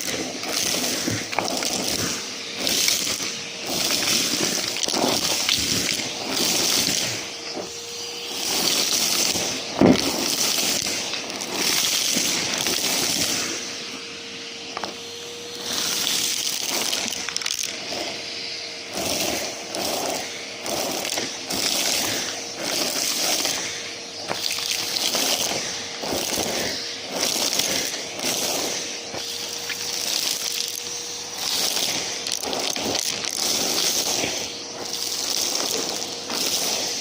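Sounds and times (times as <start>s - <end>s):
debris crackling through hose: 0.0s - 14.0s, 14.7s - 37.0s
vacuum cleaner motor whine: 0.0s - 37.0s.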